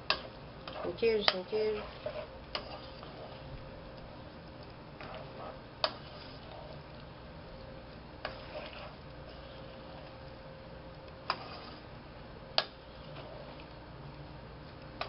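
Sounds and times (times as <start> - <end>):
spoon stirring pasta: 0.0 - 7.1, 7.7 - 10.3, 10.9 - 13.9
faint steady hum: 0.0 - 15.0.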